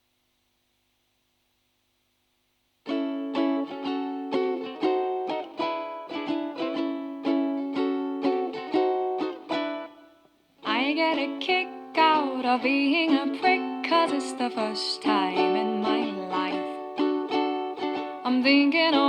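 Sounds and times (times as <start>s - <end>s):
ukulele strumming: 2.8s - 19.0s.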